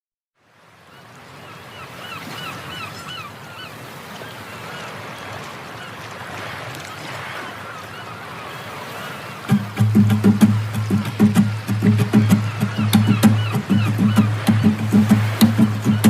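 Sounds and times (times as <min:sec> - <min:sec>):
rush of water or wind: 0:00.4 - 0:16.0
water birds honking: 0:00.7 - 0:16.0.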